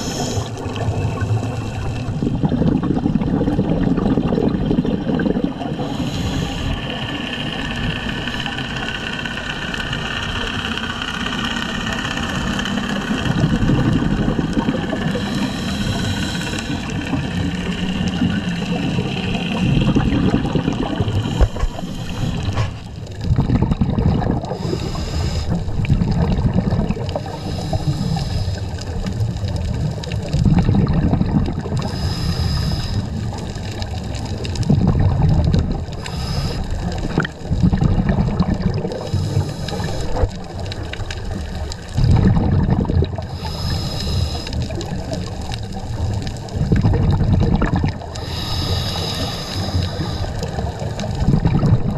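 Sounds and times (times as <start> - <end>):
regulator breathing underwater: 0.0 - 9.1, 11.0 - 29.1, 30.4 - 33.7, 35.7 - 37.9, 38.6 - 40.7, 41.3 - 51.9
bubbles gurgling underwater: 0.0 - 51.9.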